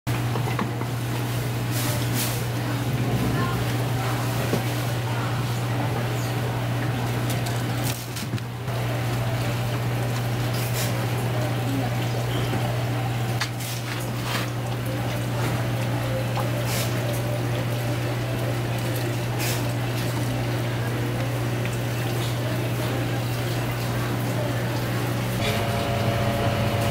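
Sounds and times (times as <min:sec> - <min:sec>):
water pump humming: 0:00.1 - 0:26.9
water running and bubbling: 0:00.2 - 0:26.9.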